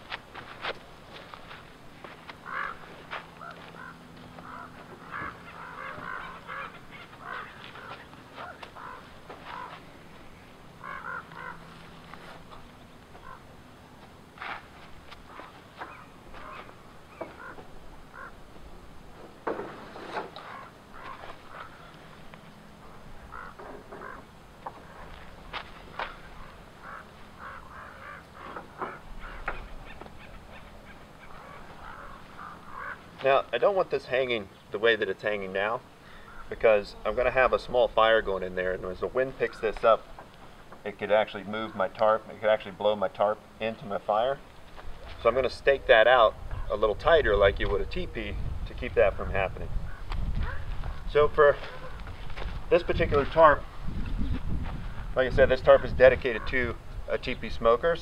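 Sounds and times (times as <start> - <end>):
birds calling: 1.1 - 46.9, 49.1 - 53.8, 54.8 - 58.0.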